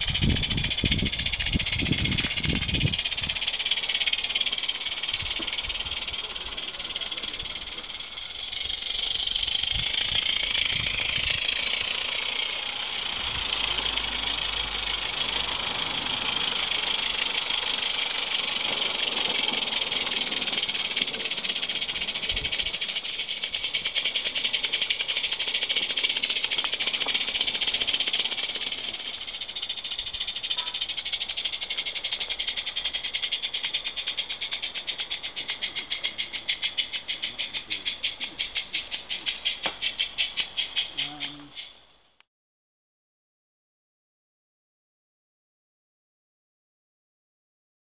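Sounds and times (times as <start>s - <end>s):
steam locomotive chuffing: 0.0s - 41.7s.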